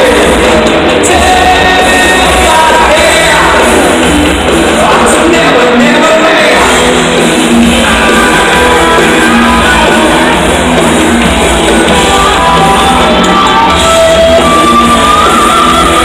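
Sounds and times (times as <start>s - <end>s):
loud rock music: 0.0s - 16.0s
person singing: 0.0s - 16.0s.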